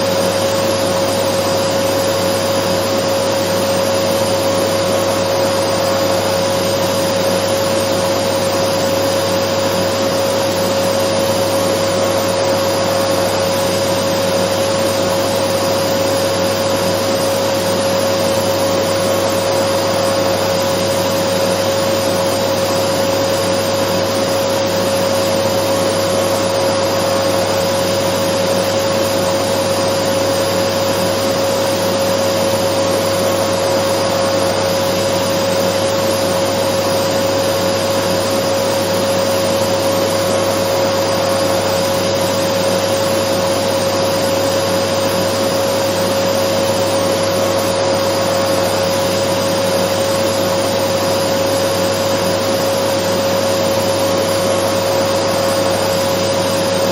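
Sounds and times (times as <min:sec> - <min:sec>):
vacuum cleaner whine: 0:00.0 - 0:56.9.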